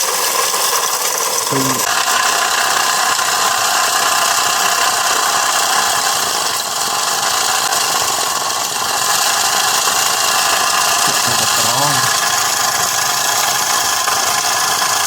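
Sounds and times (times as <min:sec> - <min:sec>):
small electric motor running: 0:00.0 - 0:15.0.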